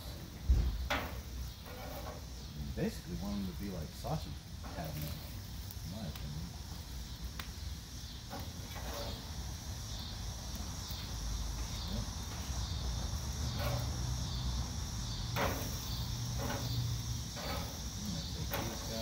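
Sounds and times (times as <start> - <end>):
metal utensil scraping grill grate: 0.0 - 5.9, 8.2 - 9.6, 10.9 - 19.0
high pulsing insect trill: 0.0 - 19.0.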